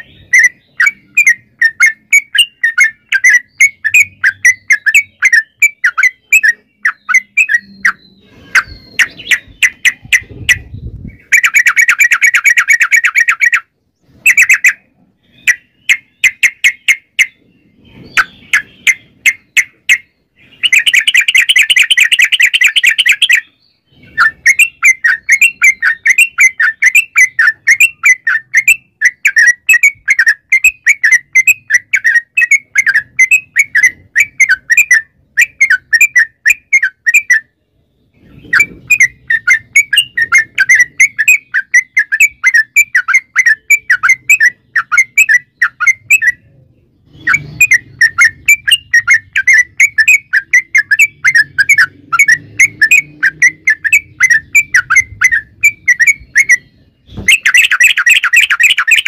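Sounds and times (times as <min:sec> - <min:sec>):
bird rapid chirping song: 0:00.0 - 0:59.0.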